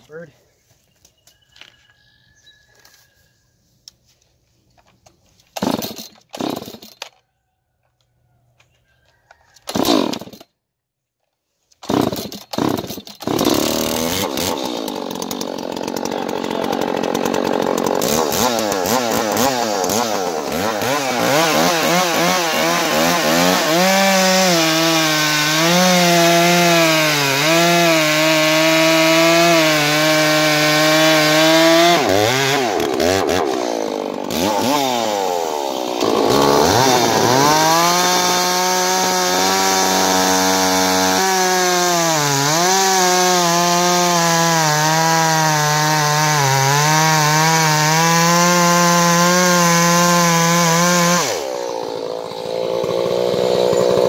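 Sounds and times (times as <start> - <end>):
chainsaw cutting log: 5.5 - 7.1, 9.6 - 10.5, 11.8 - 54.0.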